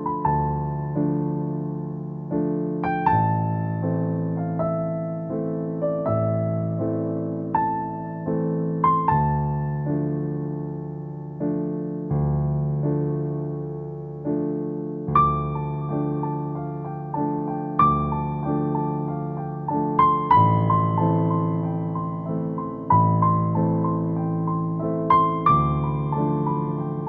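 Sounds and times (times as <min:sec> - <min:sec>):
gentle piano piece: 0:00.0 - 0:27.0.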